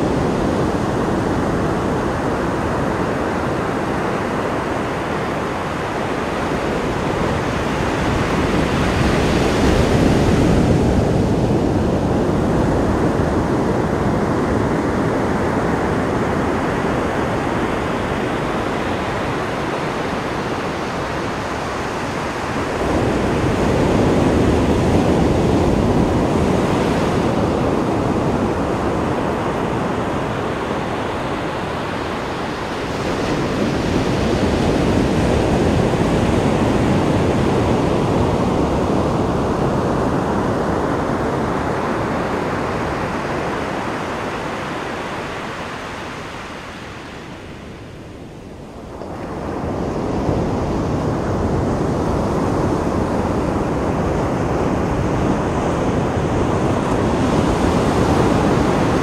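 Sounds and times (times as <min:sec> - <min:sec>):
ocean surf washing on beach: 0:00.0 - 0:59.0
wind rumbling on microphone: 0:00.0 - 0:59.0.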